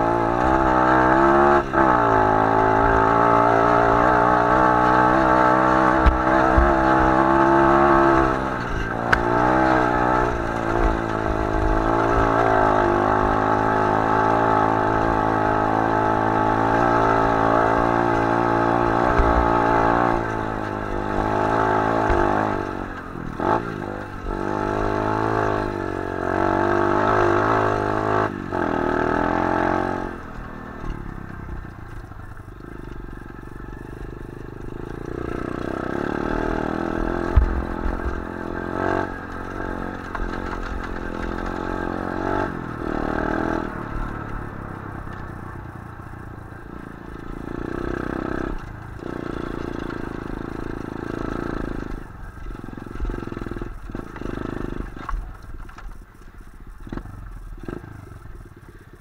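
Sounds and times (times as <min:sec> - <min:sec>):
bike rattling over rough ground: 0:00.0 - 0:59.0
motorbike engine revving: 0:00.0 - 0:59.0.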